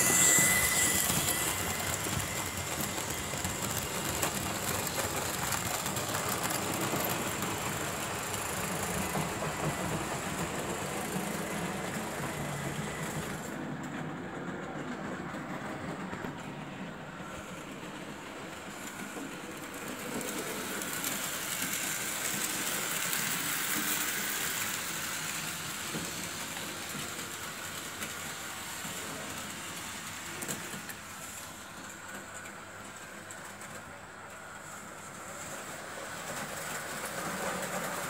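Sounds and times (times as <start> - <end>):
model trains rolling on track: 0.0 - 38.0.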